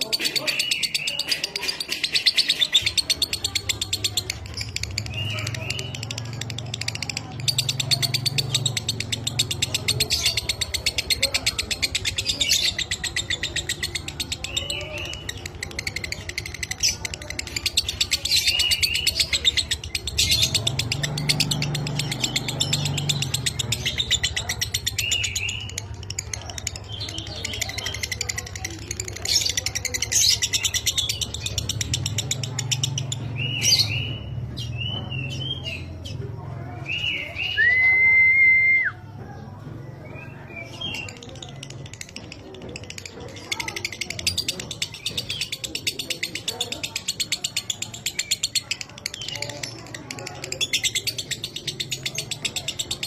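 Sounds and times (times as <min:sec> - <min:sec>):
lovebird chattering trill: 0:00.0 - 0:36.2, 0:40.2 - 0:53.0.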